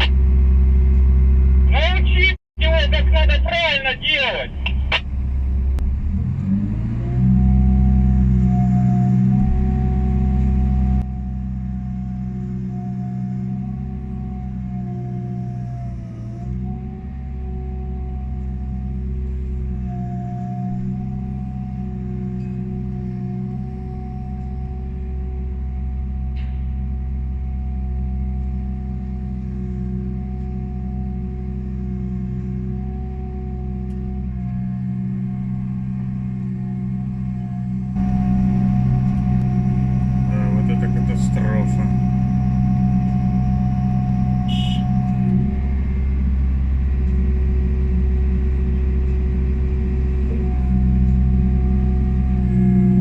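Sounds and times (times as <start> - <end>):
excavator engine and hydraulics: 0.0 - 53.0
hydraulic whine: 2.8 - 53.0.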